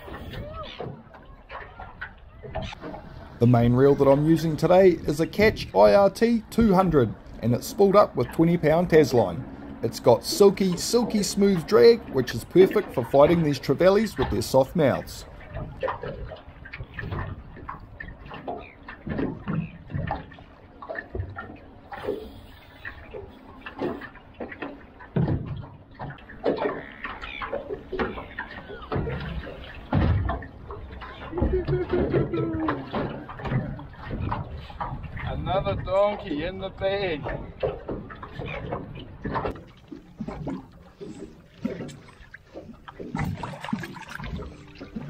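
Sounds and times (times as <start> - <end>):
water slapping against boat hull: 0.0 - 45.0.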